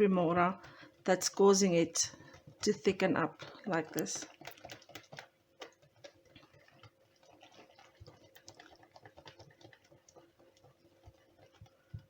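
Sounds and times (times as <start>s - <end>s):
spatula clicking in a bowl: 2.3s - 12.0s.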